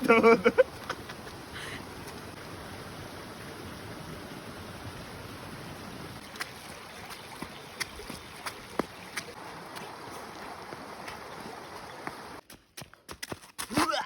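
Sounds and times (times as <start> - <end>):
rushing outdoor noise: 0.0 - 12.4.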